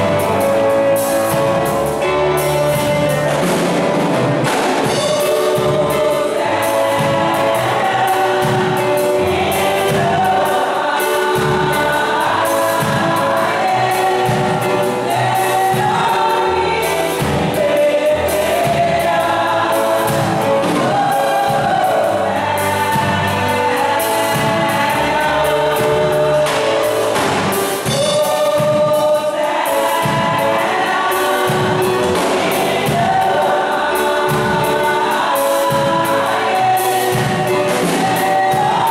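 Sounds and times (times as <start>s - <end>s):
women's choir singing gospel: 0.0s - 38.9s.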